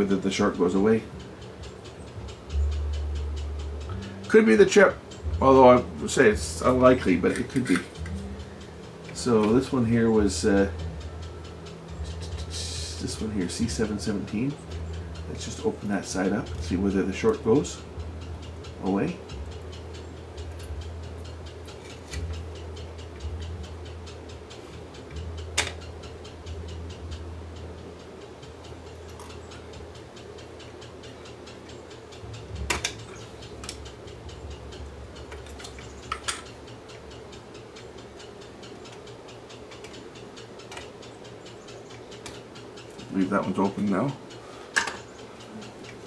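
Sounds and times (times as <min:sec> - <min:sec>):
faint steady ticking: 0:00.0 - 0:46.0
low hum: 0:00.6 - 0:43.3
sharp clicks: 0:06.6 - 0:46.0.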